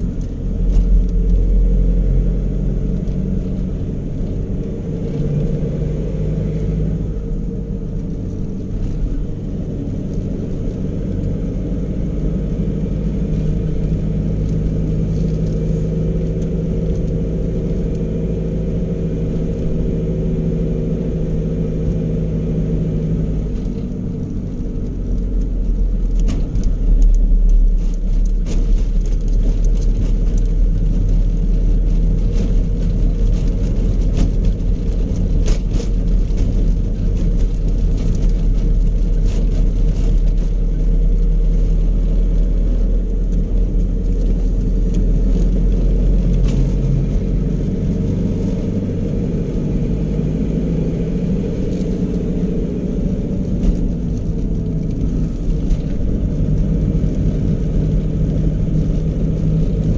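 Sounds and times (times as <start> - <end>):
road and engine rumble in vehicle: 0.0 - 59.9.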